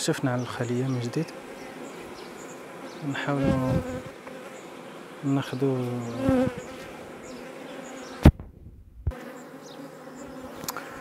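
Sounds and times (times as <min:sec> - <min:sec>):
honeybees buzzing: 0:00.0 - 0:08.4, 0:09.1 - 0:11.0.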